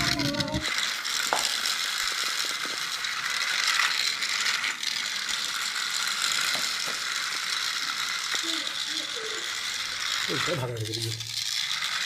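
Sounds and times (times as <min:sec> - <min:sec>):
toy motor whirring: 0:00.0 - 0:12.0.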